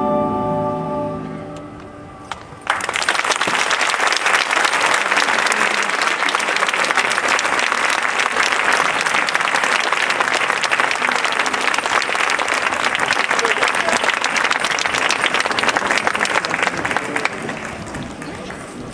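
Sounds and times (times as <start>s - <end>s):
audience applauding: 2.2s - 18.9s.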